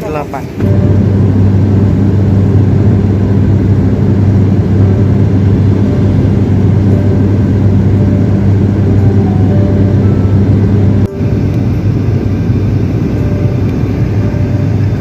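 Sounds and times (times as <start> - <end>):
airliner engines droning in cabin: 0.0 - 15.0.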